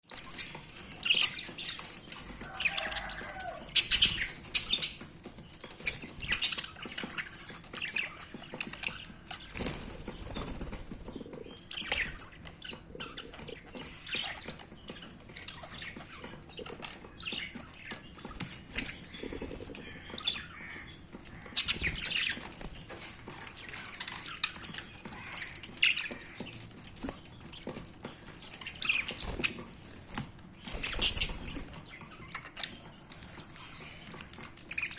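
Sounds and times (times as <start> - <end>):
wings fluttering and splashing: 0.1 - 34.9.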